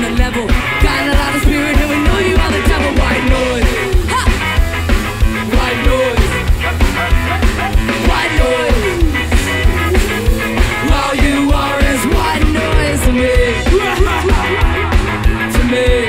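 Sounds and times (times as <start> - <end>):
bass guitar: 0.0 - 16.0
electric guitar: 0.0 - 16.0
steady drum beat: 0.0 - 16.0.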